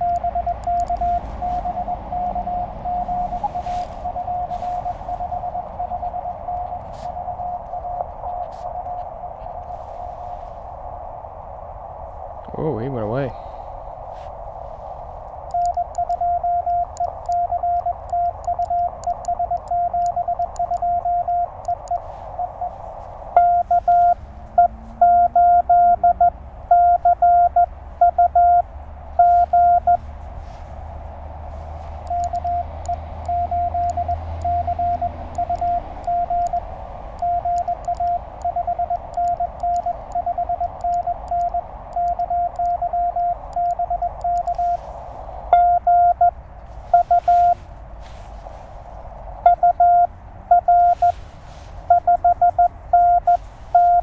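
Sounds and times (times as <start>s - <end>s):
morse code tone beeping: 0.0s - 9.4s, 15.3s - 30.6s, 31.5s - 48.6s, 49.4s - 54.0s
radio receiver hiss: 0.0s - 54.0s.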